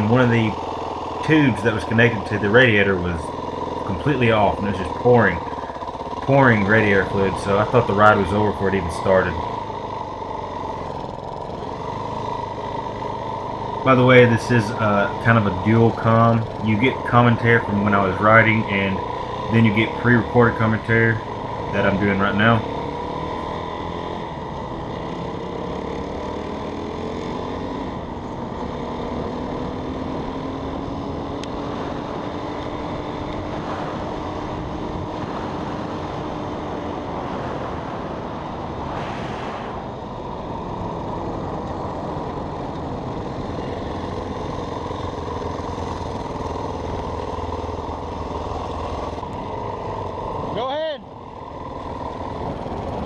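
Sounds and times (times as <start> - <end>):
dirt bike engine running: 0.0 - 53.0.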